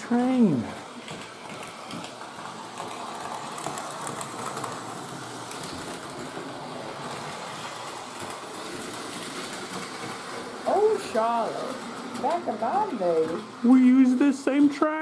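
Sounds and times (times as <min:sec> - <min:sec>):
model train whirring: 0:00.0 - 0:15.0
wheels clicking on rails: 0:00.0 - 0:15.0.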